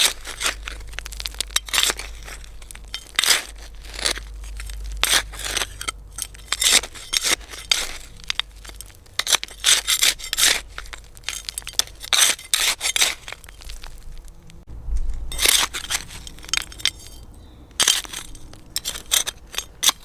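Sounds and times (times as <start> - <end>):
trowel scraping soil: 0.0 - 14.4, 15.3 - 20.0.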